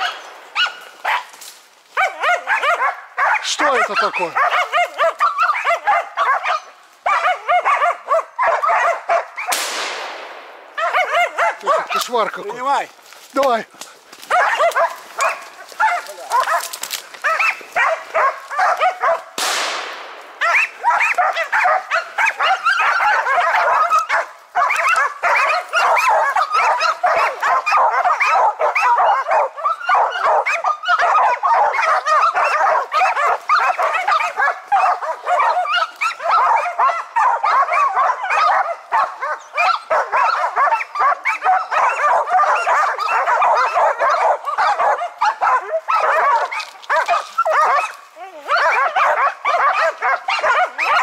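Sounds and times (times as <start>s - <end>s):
dogs barking rapidly: 0.0s - 9.8s, 10.7s - 12.8s, 14.1s - 51.0s.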